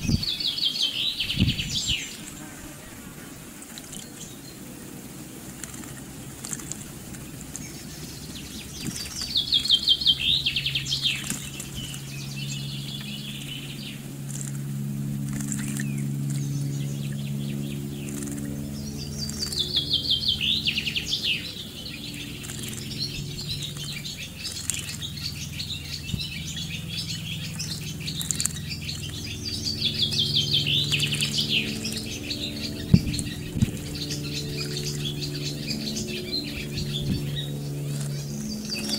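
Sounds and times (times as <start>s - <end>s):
low steady hum: 0.0s - 38.9s
songbird trilling: 0.0s - 38.9s
bird splashing in water: 2.1s - 16.6s, 17.8s - 20.3s, 21.0s - 38.9s.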